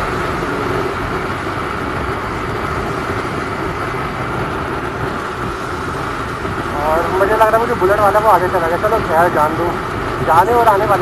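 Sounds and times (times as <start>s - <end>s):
motorcycle engine drone: 0.0s - 11.0s
wind buffeting microphone: 0.0s - 11.0s.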